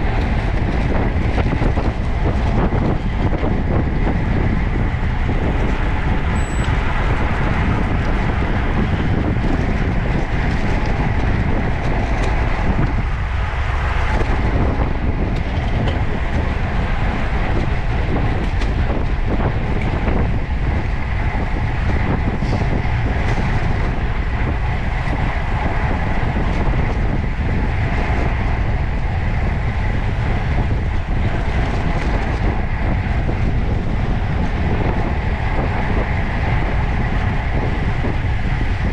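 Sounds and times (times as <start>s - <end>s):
bicycle road noise: 0.0s - 38.9s
wind rushing over microphone: 0.0s - 38.9s.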